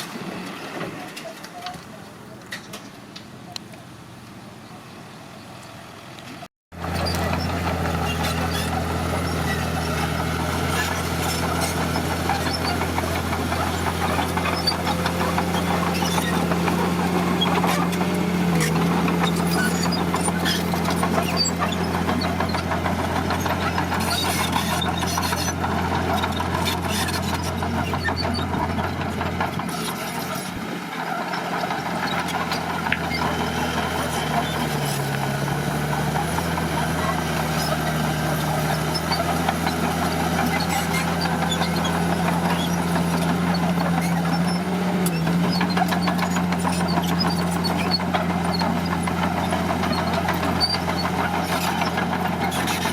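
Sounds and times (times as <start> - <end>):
heavy machinery diesel engine: 0.0 - 52.9.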